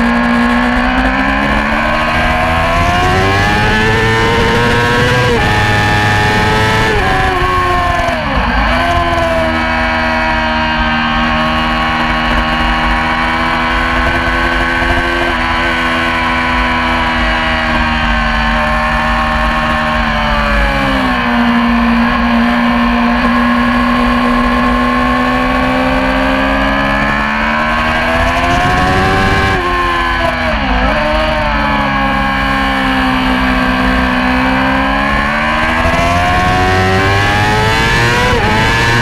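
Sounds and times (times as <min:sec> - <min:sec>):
motorcycle engine revving high: 0:00.0 - 0:39.0.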